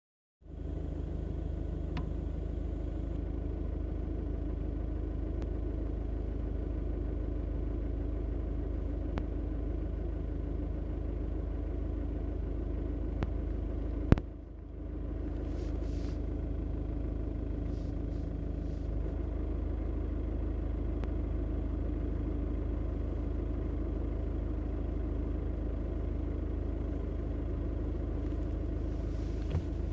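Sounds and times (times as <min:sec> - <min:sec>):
car engine idling: 0:00.4 - 0:29.9.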